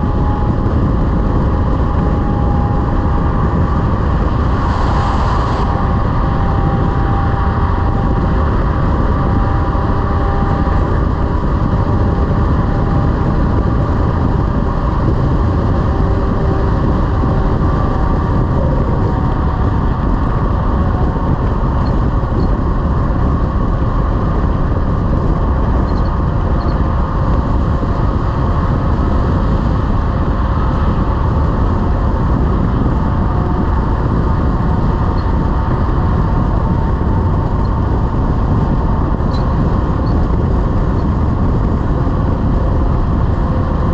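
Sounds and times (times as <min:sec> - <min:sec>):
truck engine and road noise: 0:00.0 - 0:43.9.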